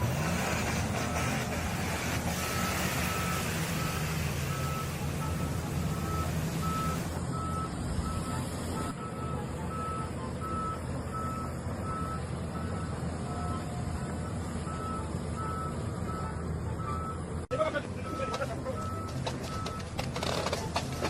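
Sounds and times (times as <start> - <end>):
low engine rumble: 0.0 - 21.0
reversing alarm beeping: 1.9 - 21.0.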